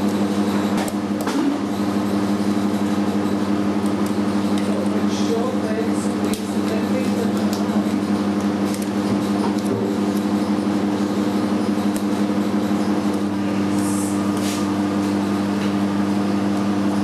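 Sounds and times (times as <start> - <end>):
electrical machine hum: 0.0 - 17.0.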